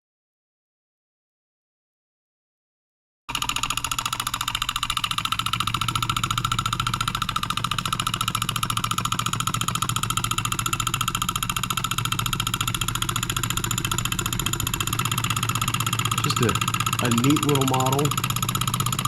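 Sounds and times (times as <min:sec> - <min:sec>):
solenoid engine mechanical clatter: 0:03.3 - 0:19.0.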